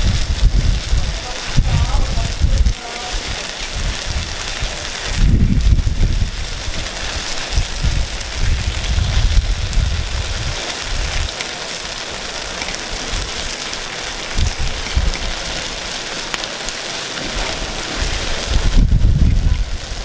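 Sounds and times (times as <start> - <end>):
batter sizzling on hot griddle: 0.0 - 20.0.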